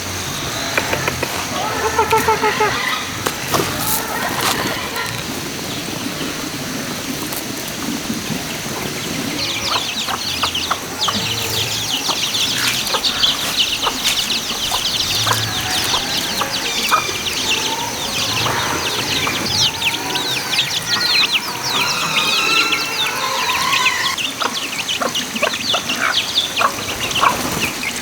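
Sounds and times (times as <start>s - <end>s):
high insect whine: 0.0s - 24.2s
small birds chirping rapidly: 0.0s - 28.0s.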